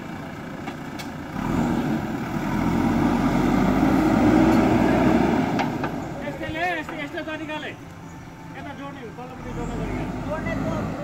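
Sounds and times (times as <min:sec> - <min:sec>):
diesel engine revving: 0:00.0 - 0:07.6, 0:09.2 - 0:11.0.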